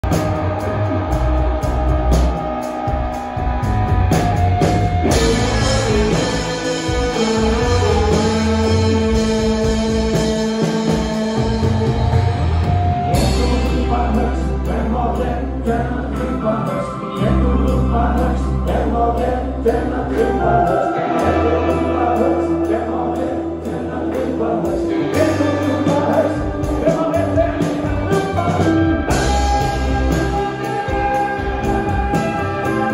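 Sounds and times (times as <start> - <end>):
lead singer singing: 0.0 - 32.9
live rock band playing: 0.0 - 32.9.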